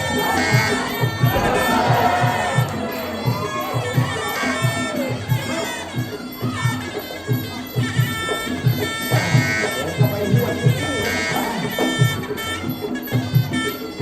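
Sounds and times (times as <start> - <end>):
reedy oboe melody: 0.0 - 14.0.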